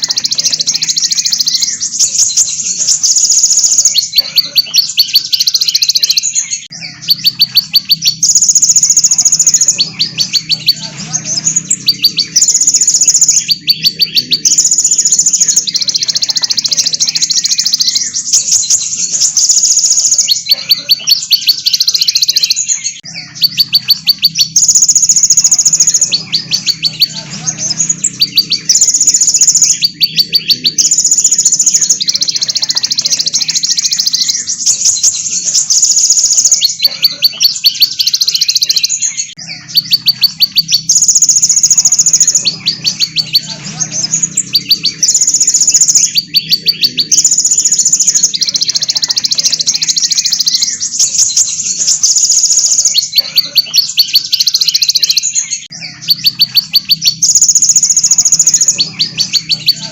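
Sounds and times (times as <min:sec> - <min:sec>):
rattling bird calls: 0:00.0 - 0:59.9
songbirds trilling: 0:00.0 - 0:59.9.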